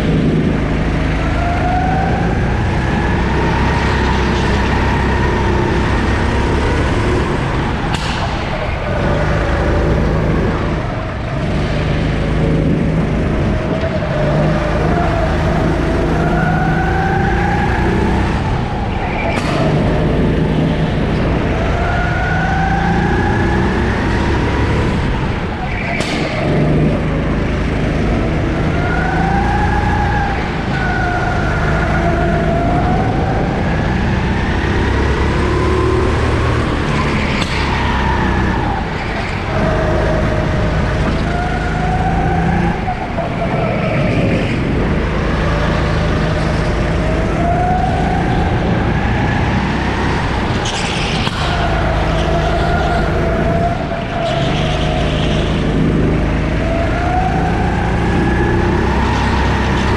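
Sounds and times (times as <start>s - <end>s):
kart engine accelerating: 0.0s - 59.9s.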